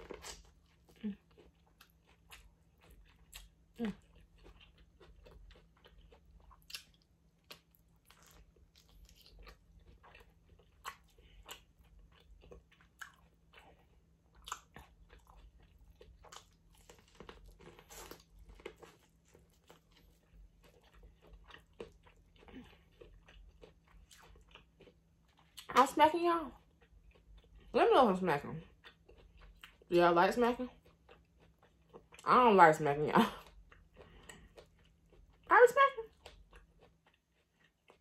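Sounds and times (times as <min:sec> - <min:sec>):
person chewing food: 0:00.0 - 0:25.8, 0:26.5 - 0:27.8, 0:28.6 - 0:29.9, 0:30.6 - 0:32.2, 0:33.3 - 0:38.0.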